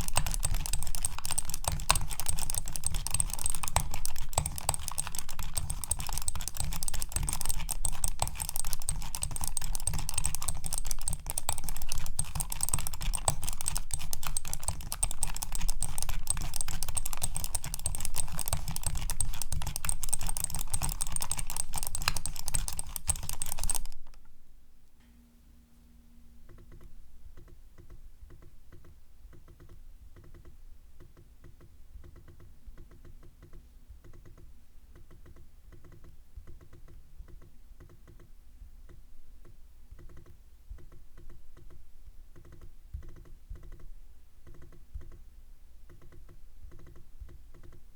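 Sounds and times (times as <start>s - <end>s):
rapid mouse clicks and rubbing: 0.0s - 24.2s, 26.5s - 38.3s, 38.9s - 41.8s, 42.4s - 45.2s, 45.9s - 47.9s.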